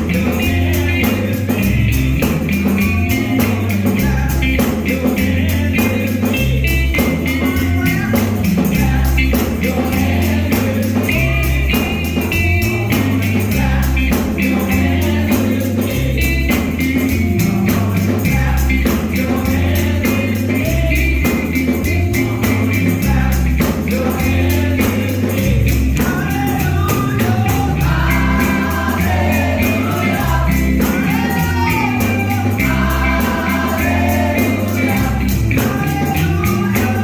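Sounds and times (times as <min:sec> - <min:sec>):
gospel music with singers: 0:00.0 - 0:37.0
tambourine: 0:00.0 - 0:37.0.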